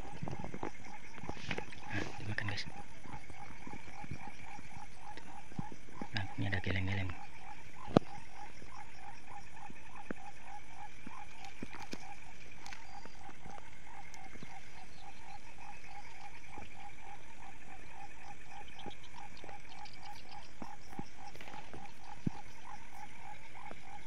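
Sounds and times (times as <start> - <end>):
continuous high trilling: 0.0 - 24.0
frogs croaking: 0.0 - 24.0.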